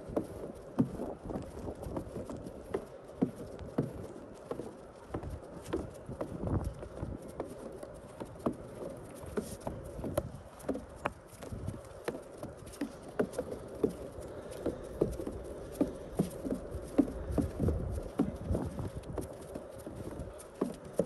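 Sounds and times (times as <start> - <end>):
footsteps on snow: 0.0 - 21.0.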